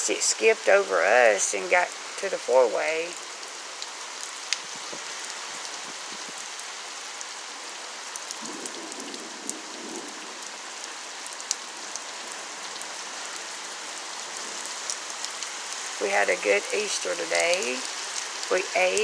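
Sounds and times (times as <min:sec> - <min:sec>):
heavy rain hissing: 0:00.0 - 0:19.0
raindrops ticking: 0:00.0 - 0:19.0.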